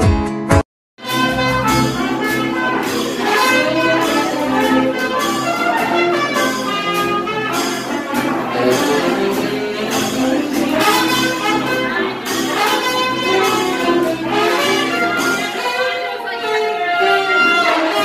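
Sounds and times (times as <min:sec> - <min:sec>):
brass jazz dance music: 0:00.0 - 0:18.0.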